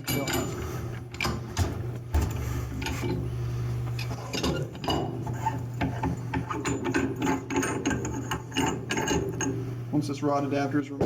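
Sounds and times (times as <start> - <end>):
metallic clinks and scraping: 0.0 - 9.6
steady low hum: 0.0 - 11.0.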